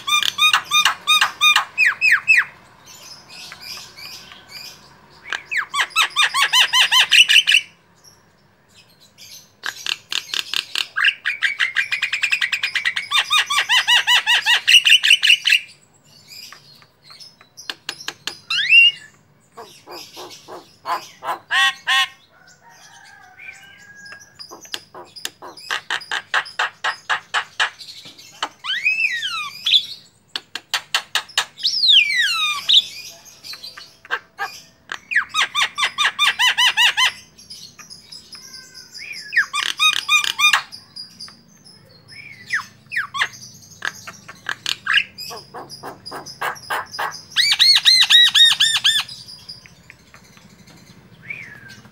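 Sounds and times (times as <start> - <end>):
bird singing chattering notes: 0.0 - 22.2, 23.1 - 51.9.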